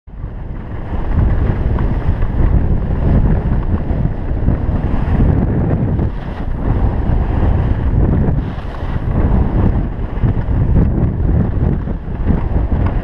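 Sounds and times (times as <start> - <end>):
wind buffeting microphone: 0.1 - 13.0.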